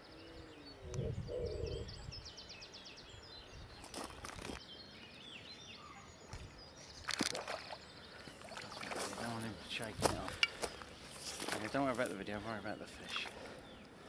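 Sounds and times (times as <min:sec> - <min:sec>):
small birds singing: 0:00.0 - 0:14.0.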